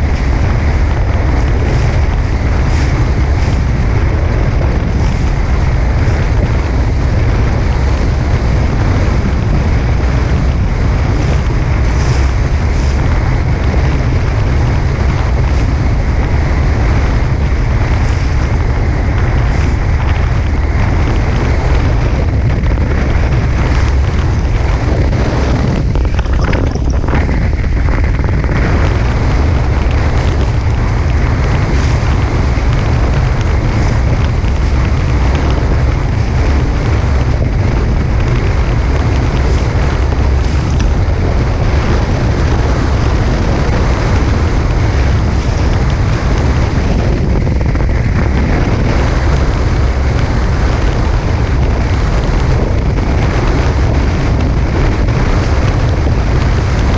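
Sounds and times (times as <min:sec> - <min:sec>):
water noise: 0:00.0 - 0:56.9
wind buffeting microphone: 0:00.0 - 0:56.9.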